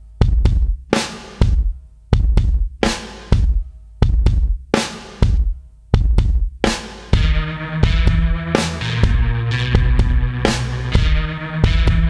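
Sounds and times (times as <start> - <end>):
drum-heavy background music: 0.0 - 12.0.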